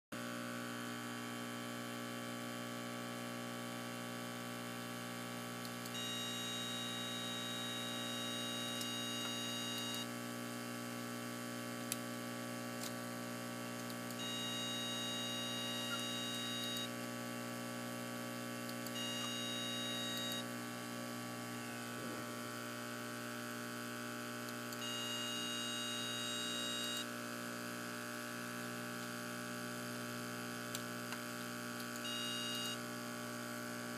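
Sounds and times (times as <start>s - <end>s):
aquarium pump hum: 0.2s - 33.9s
solenoid valve high-pitched whine: 0.2s - 33.9s.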